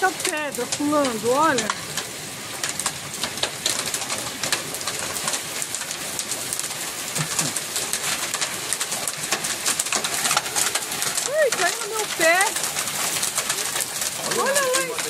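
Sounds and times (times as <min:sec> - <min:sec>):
hailstones pelting and bouncing: 0:00.0 - 0:15.0
heavy rain hiss: 0:00.0 - 0:15.0.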